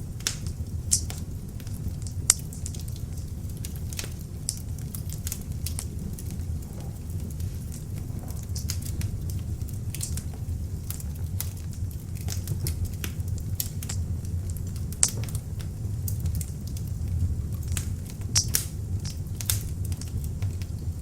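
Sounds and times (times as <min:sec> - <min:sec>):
fire crackling and popping: 0:00.0 - 0:21.0
rumble of flames: 0:00.0 - 0:21.0.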